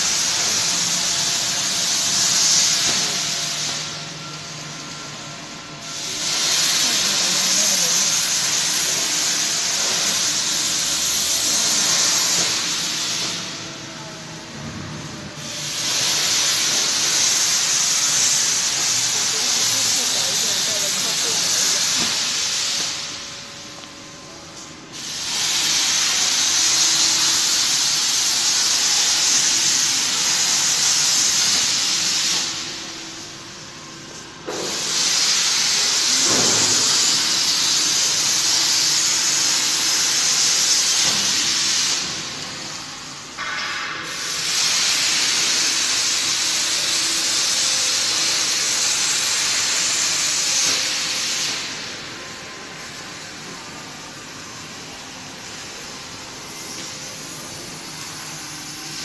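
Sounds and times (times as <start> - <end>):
plasma torch hissing: 0.0 - 59.0.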